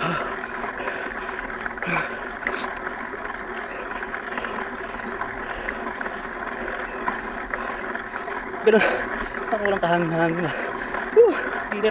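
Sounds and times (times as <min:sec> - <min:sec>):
bike tyres rolling on dirt: 0:00.0 - 0:11.9
small clicks and rattles: 0:00.0 - 0:11.9.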